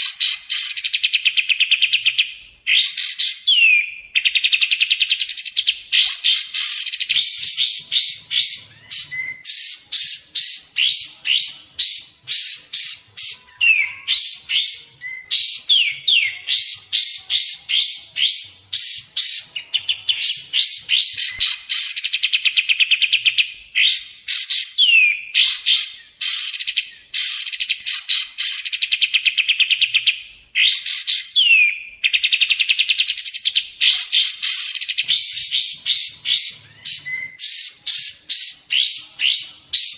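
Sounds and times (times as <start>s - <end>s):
bird trilling: 0.0s - 39.9s.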